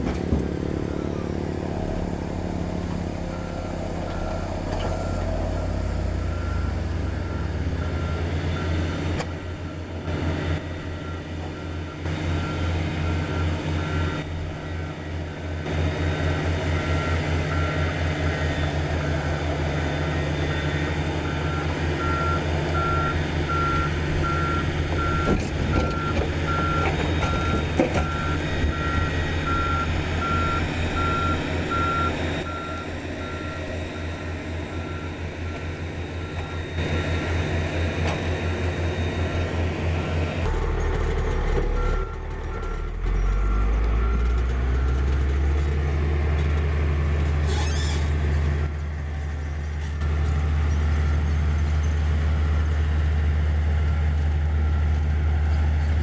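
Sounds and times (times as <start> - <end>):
diesel engine rumbling: 0.0 - 56.0
reversing alarm beeps: 0.4 - 45.7, 50.1 - 55.8.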